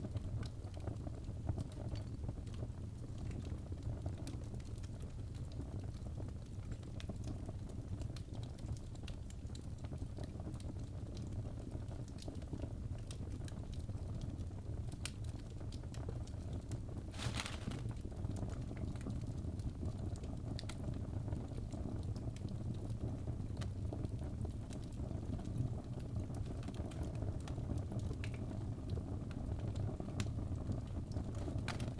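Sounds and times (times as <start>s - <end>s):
wood fire crackling and popping: 0.0s - 31.9s.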